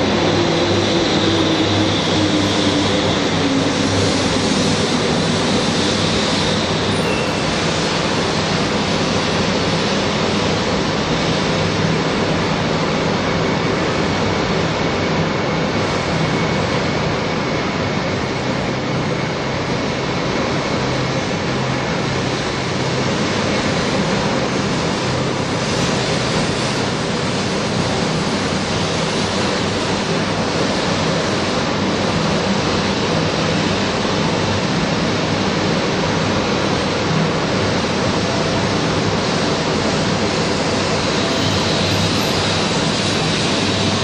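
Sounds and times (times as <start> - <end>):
high-speed train running past: 0.0 - 44.0.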